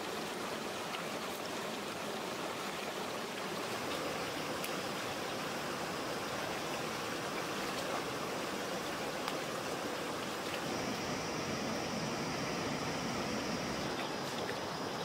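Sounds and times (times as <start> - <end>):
stream babbling over rocks: 0.0 - 15.0.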